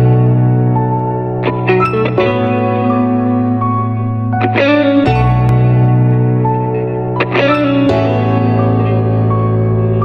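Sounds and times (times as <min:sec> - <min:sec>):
echoing plucked guitar notes: 0:00.0 - 0:10.0.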